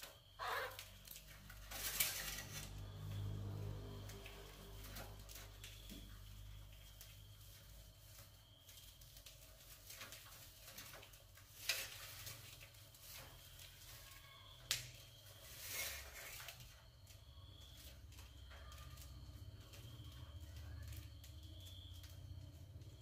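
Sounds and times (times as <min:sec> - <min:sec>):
rats scratching and rustling: 0:00.0 - 0:23.0.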